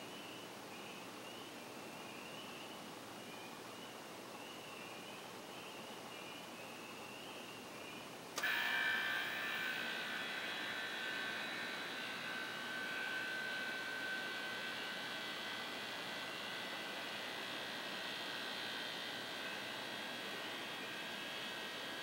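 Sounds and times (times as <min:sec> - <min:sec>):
high-pitched electrical whine: 0:00.0 - 0:22.0.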